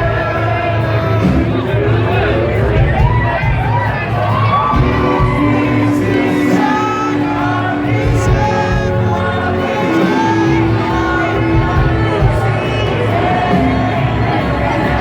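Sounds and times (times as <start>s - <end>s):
crowd shouting along: 0.0s - 15.0s
live rock band playing: 0.0s - 15.0s
sung vocals: 0.0s - 15.0s.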